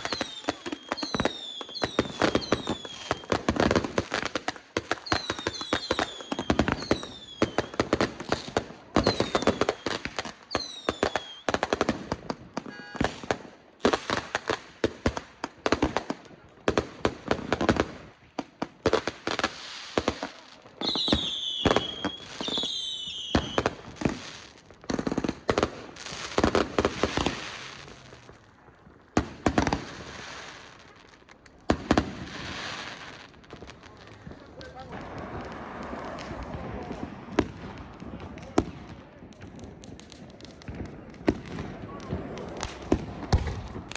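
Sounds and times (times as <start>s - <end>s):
whistling rockets: 0.0s - 14.6s, 19.5s - 28.5s, 31.7s - 43.9s
fireworks bangs and crackling: 0.0s - 43.9s.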